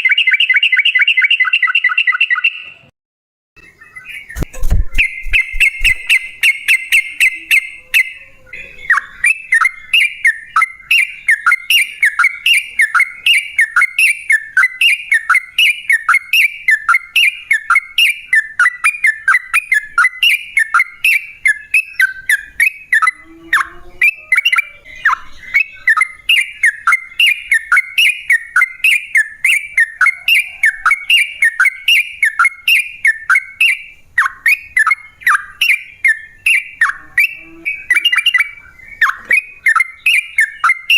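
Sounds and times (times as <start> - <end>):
bird calling in chirped notes: 0.0 - 2.9, 3.6 - 40.9.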